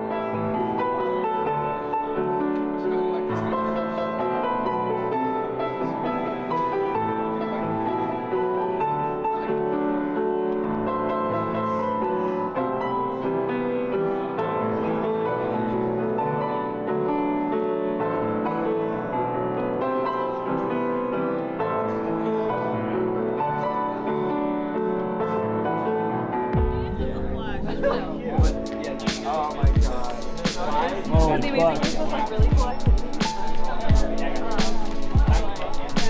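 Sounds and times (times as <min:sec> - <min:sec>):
solo piano music: 0:00.0 - 0:36.0.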